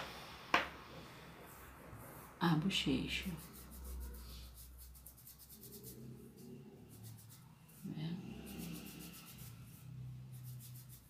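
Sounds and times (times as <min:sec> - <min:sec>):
brush scratching on paper: 0:01.5 - 0:11.0.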